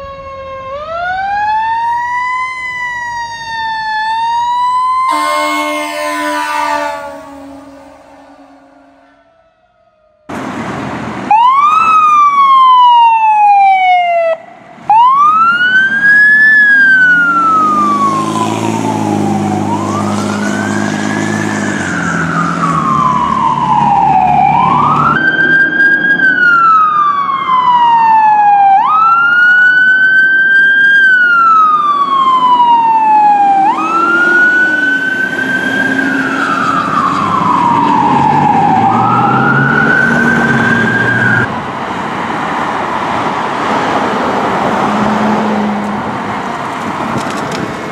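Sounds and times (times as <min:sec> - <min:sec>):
fire engine wail siren: 0:00.0 - 0:47.9.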